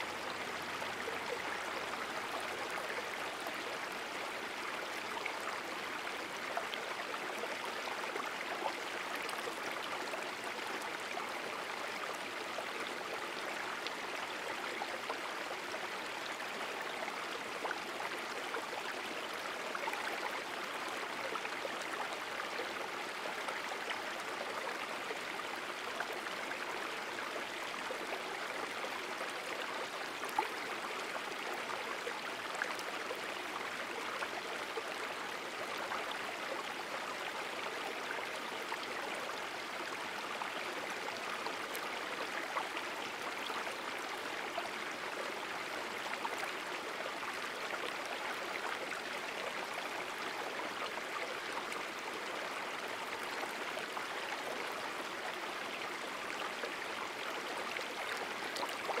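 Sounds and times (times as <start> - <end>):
stream running water: 0.0 - 59.0.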